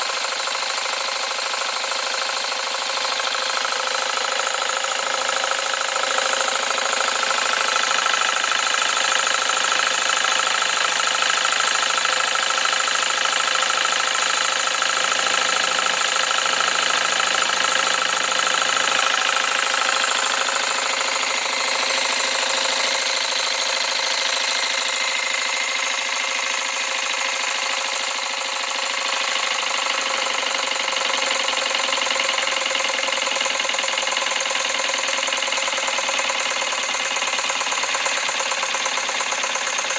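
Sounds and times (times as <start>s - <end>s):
model steam engine chattering: 0.0s - 39.9s.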